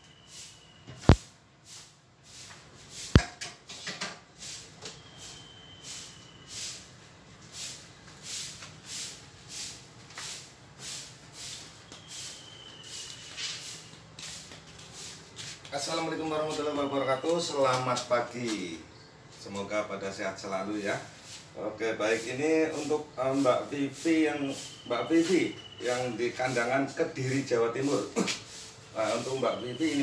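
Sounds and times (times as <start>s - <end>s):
footsteps shuffling on tiled floor: 0.4s - 3.2s, 4.4s - 19.7s, 20.4s - 30.0s.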